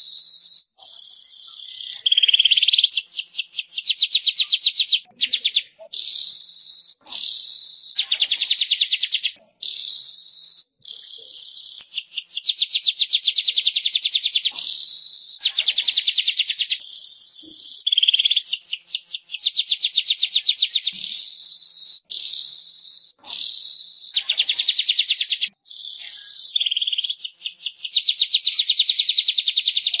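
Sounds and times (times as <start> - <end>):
weaver bird song: 0.0 - 30.0.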